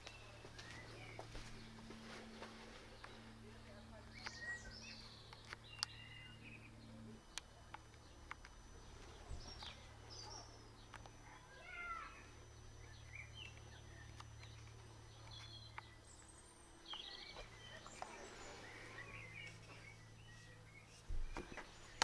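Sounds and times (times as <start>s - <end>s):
faint bird chirps: 0.0s - 22.0s
steady low hum: 0.0s - 22.0s.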